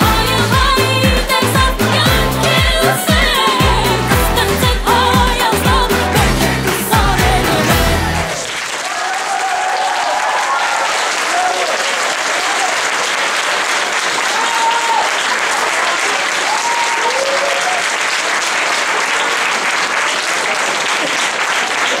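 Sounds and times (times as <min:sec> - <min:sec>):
audience clapping: 0:00.0 - 0:22.0.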